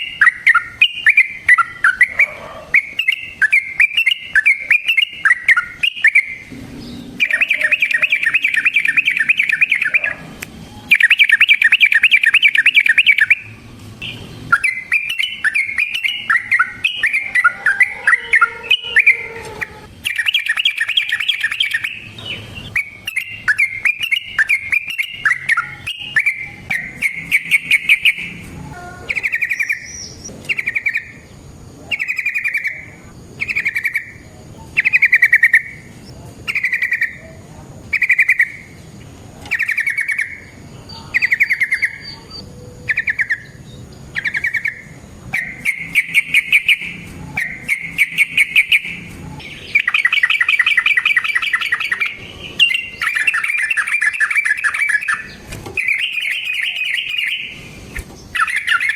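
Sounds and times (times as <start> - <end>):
bulbul singing: 0.0 - 58.9.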